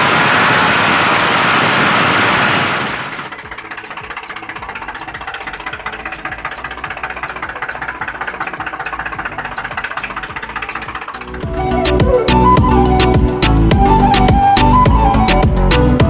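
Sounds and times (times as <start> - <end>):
miniature diesel engine knocking: 2.7 - 16.0.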